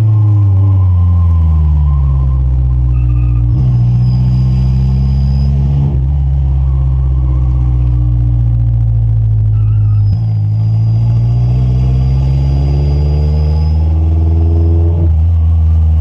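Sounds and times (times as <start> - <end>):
car engine while driving: 0.0 - 16.0.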